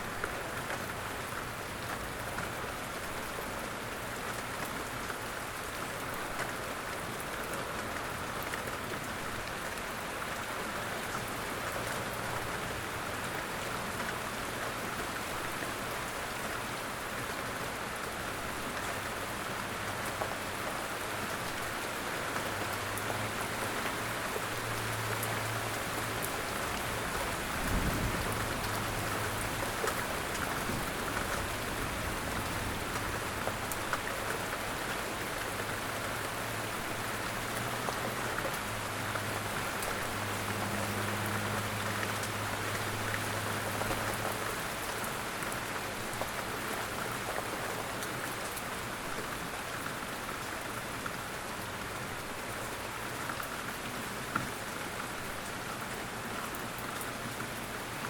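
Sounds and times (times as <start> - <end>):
light rain falling: 0.0 - 58.0
raindrops striking close by: 0.0 - 58.0.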